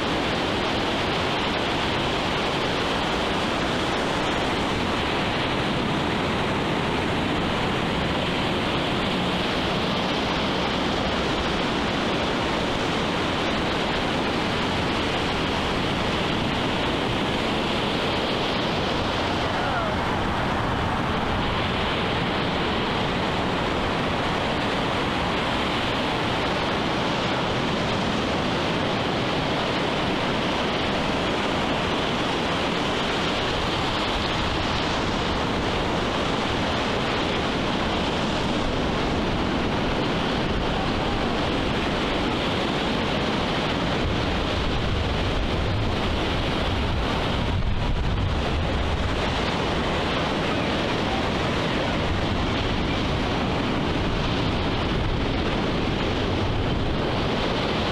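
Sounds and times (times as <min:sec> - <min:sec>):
ocean surf washing on beach: 0:00.0 - 0:57.9.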